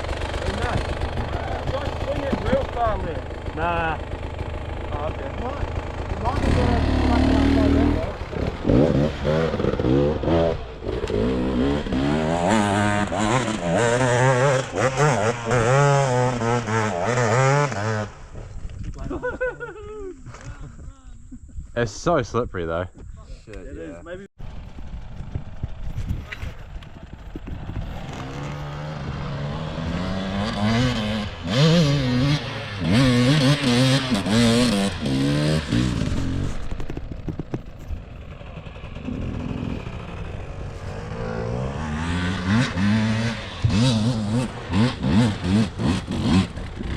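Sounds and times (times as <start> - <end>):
dirt bike engine revving: 0.0 - 18.6, 27.1 - 46.9.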